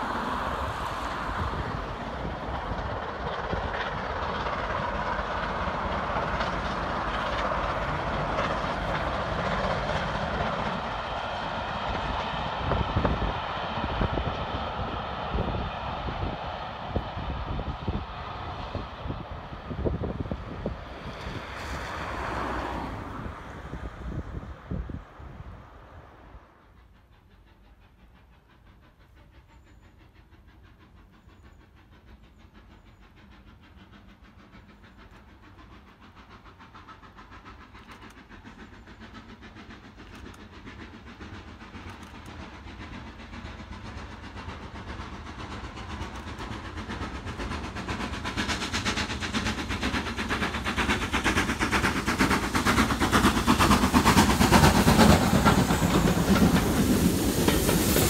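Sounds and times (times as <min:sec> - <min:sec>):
coaches rolling over rails: 0:00.0 - 0:26.6, 0:33.8 - 0:58.0
steam hiss: 0:00.0 - 0:58.0
steam locomotive exhaust beats: 0:00.0 - 0:58.0.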